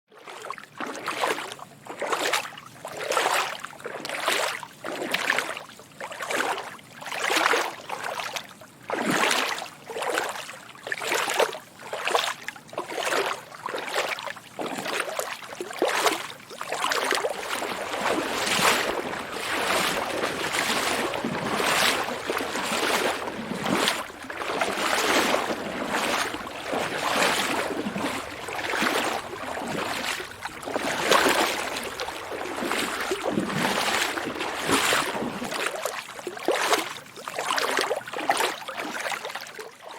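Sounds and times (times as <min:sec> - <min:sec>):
footsteps wading through water: 0:00.1 - 0:39.9.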